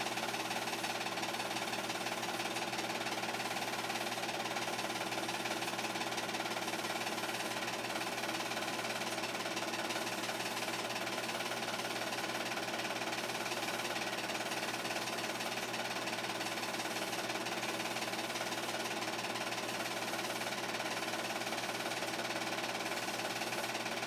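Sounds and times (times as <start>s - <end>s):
film projector running: 0.0s - 24.0s.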